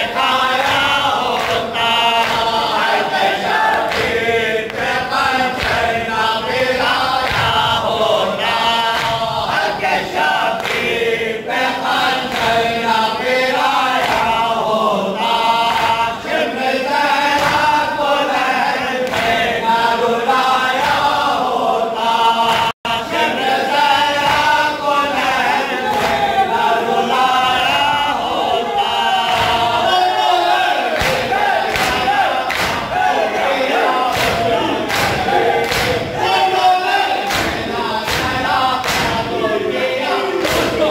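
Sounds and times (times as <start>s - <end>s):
men chanting in unison: 0.0s - 40.9s
rhythmic chest-beating: 0.0s - 40.9s.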